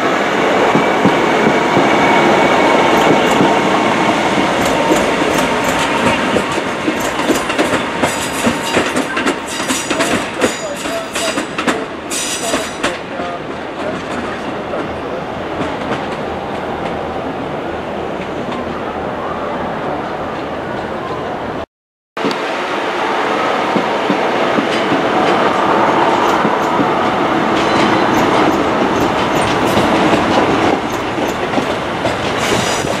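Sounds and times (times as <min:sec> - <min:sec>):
train running along tracks: 0:00.0 - 0:21.6, 0:22.2 - 0:33.0.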